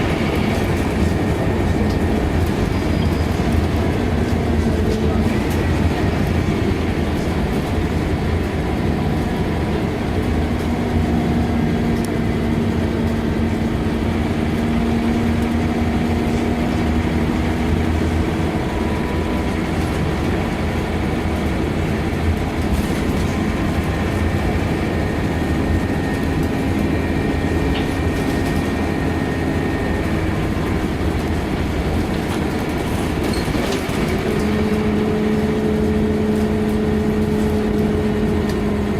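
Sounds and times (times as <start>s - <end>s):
bus diesel engine: 0.0s - 38.9s
road noise: 0.0s - 38.9s.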